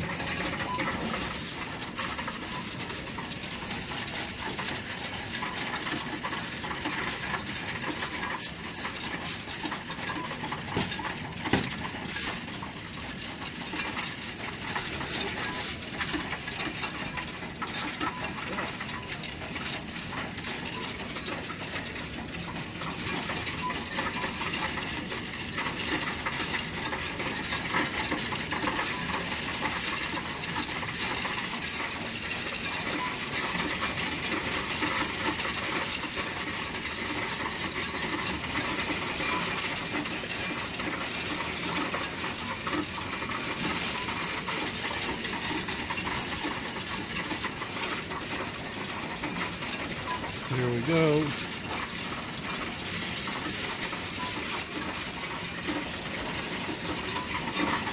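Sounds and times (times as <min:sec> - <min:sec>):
coins clattering through counting machine: 0:00.0 - 0:57.9.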